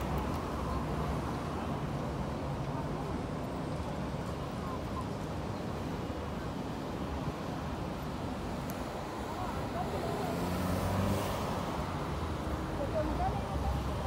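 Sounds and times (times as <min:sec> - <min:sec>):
faint indistinct voices: 0:00.0 - 0:14.0
low traffic rumble: 0:00.0 - 0:14.0.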